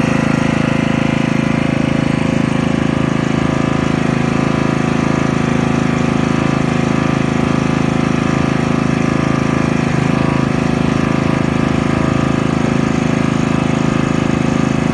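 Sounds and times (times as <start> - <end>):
small petrol engine running: 0.0 - 14.9.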